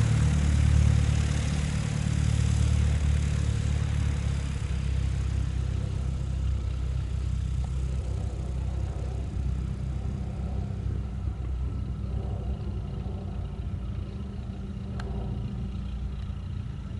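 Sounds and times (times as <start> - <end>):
light aircraft engine and propeller: 0.0 - 16.9.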